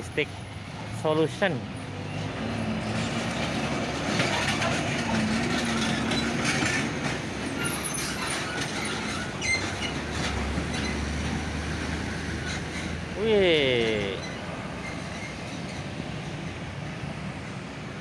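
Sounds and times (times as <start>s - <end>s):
heavy trucks passing: 0.0s - 18.0s.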